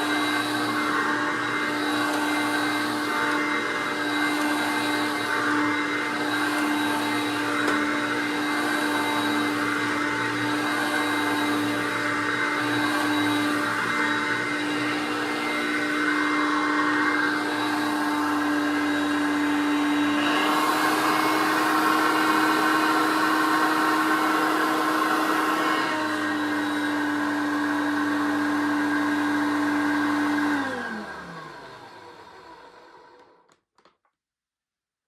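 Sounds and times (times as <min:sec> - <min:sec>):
vacuum motor winding down: 0:00.0 - 0:33.5
vacuum cleaner running: 0:00.0 - 0:33.6.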